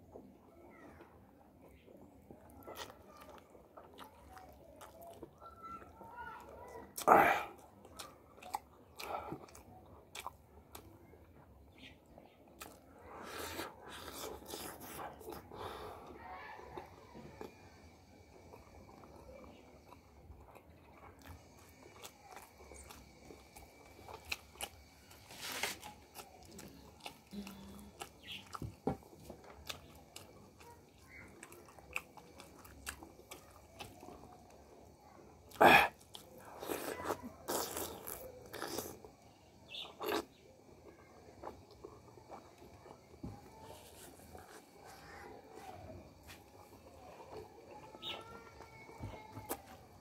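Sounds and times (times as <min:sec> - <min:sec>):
chewing and mouth clicks: 0:01.6 - 0:06.0, 0:07.0 - 0:15.5, 0:16.8 - 0:45.0.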